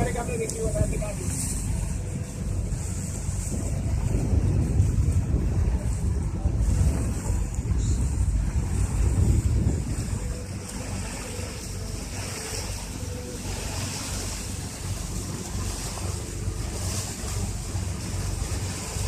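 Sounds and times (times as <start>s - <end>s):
motorboat engine drone: 0.0s - 19.0s
sea water rushing: 0.0s - 19.0s
wind buffeting microphone: 0.0s - 19.0s.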